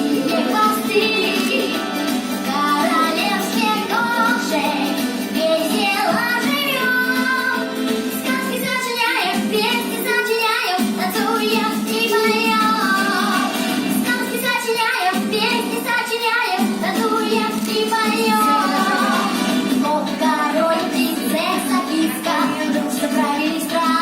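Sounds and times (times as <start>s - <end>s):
children singing: 0.0s - 24.0s
musical accompaniment: 0.0s - 24.0s.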